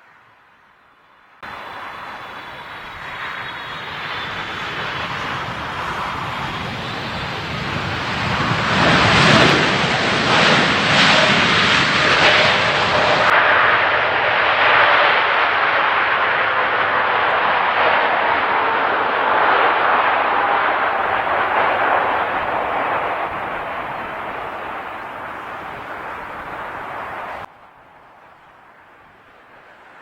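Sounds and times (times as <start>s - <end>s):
jet airliner engine noise: 1.4s - 30.0s.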